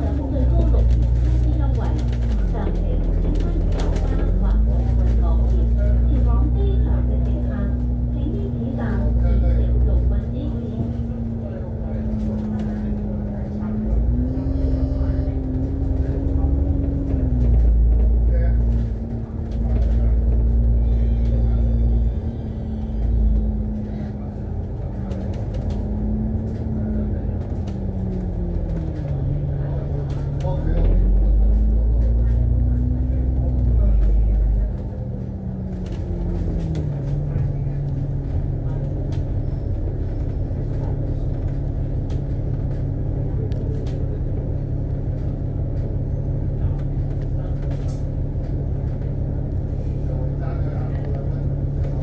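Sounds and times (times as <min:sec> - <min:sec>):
bus engine drone: 0:00.0 - 0:52.0
road rumble: 0:00.0 - 0:52.0.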